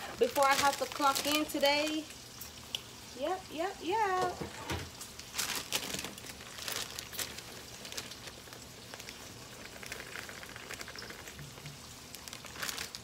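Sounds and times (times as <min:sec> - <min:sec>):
bacon sizzling and crackling: 0:00.0 - 0:13.0.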